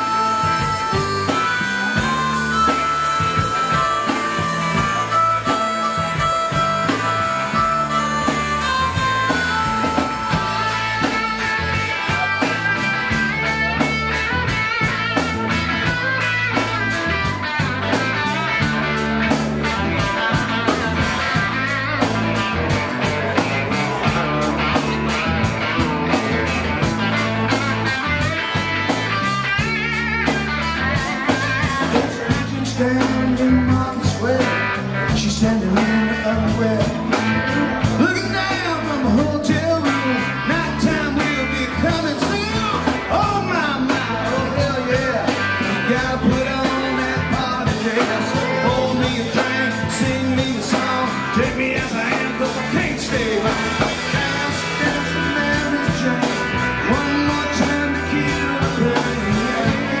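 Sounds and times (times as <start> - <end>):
bass guitar: 0.0 - 60.0
drum kit steady beat: 0.0 - 60.0
electric guitar: 0.0 - 60.0.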